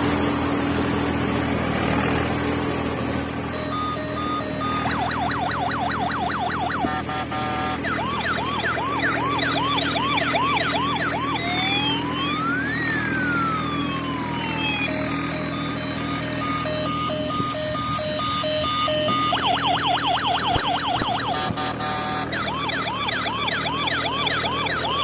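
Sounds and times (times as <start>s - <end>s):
electronic toy siren: 3.5s - 25.0s.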